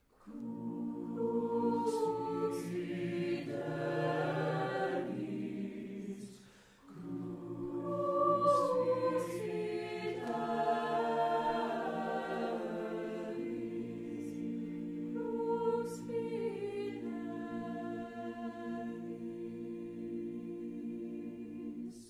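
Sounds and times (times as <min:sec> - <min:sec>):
choir singing held chords: 0:00.2 - 0:22.0.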